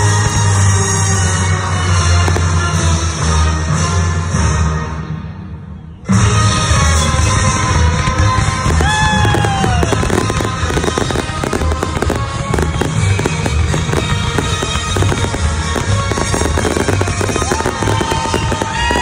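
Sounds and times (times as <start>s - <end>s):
fireworks crackling and booming: 0.0s - 4.6s, 6.2s - 19.0s
music playing: 0.0s - 19.0s.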